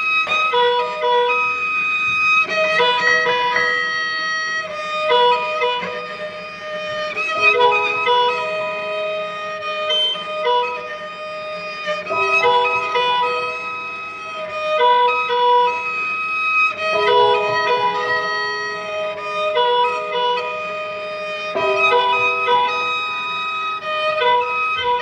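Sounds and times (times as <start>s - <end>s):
cello and piano music: 0.0s - 25.0s.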